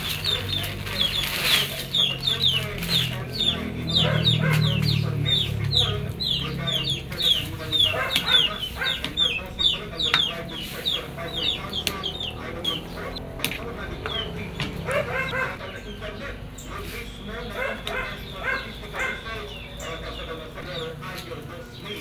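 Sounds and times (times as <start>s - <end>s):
chickens chirping: 0.0s - 22.0s.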